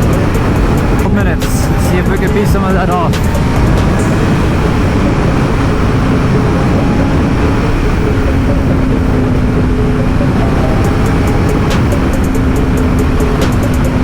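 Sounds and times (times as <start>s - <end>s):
motorcycle engine cruising: 0.0s - 14.0s
wind rush on microphone: 0.0s - 14.0s.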